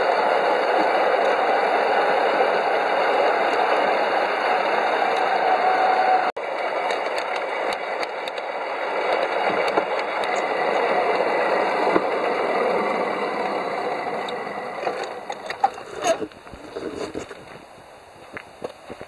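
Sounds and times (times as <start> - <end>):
wheels rattling on rails: 0.0 - 19.0.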